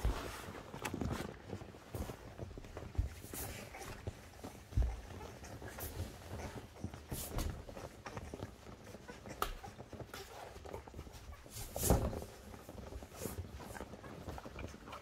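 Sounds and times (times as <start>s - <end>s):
puppies clicking and rustling: 0.0s - 15.0s.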